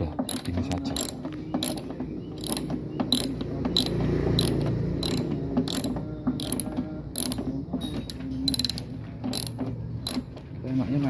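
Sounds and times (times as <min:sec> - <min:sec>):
ratchet wrench clicking: 0:00.3 - 0:10.3.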